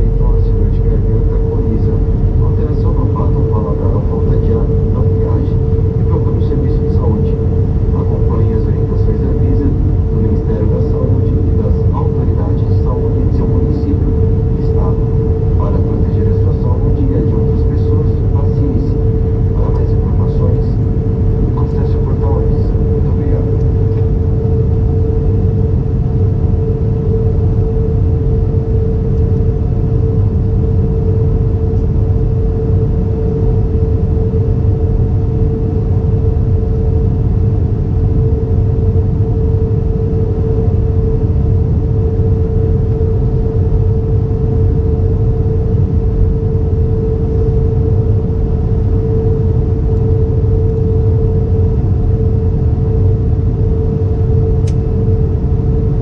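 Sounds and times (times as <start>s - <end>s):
airplane cabin engine rumble: 0.0s - 56.0s
mid-pitched hum: 0.0s - 56.0s.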